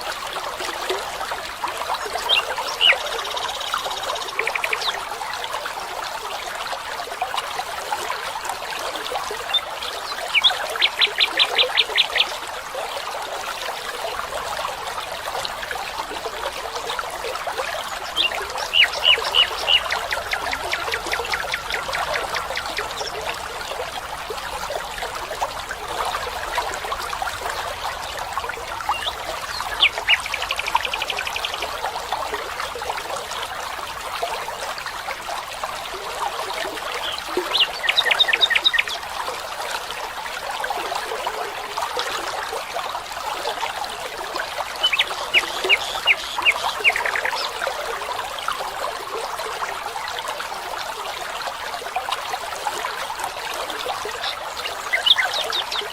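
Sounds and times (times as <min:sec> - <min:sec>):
water trickling and babbling: 0:00.0 - 0:55.9.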